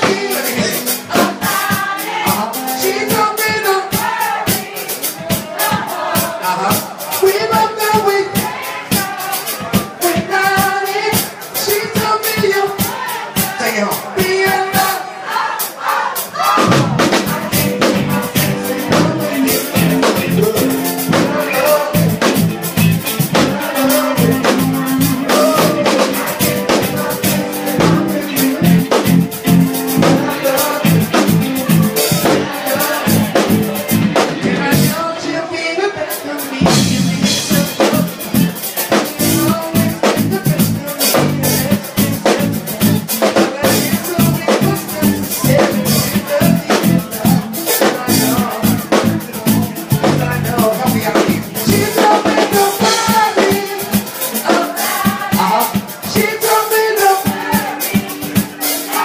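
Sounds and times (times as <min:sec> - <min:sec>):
person singing: 0:00.0 - 0:15.4, 0:16.2 - 0:59.0
live band playing: 0:00.0 - 0:59.0.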